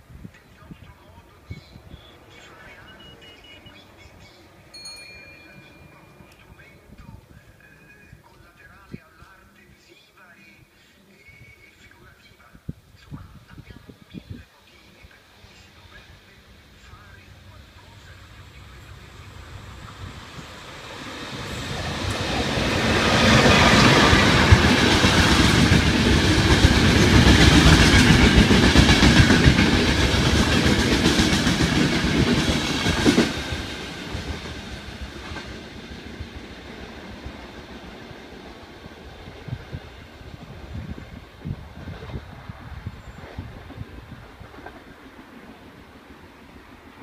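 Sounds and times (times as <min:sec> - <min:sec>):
passenger train passing: 0:00.0 - 0:09.4, 0:14.6 - 0:47.0.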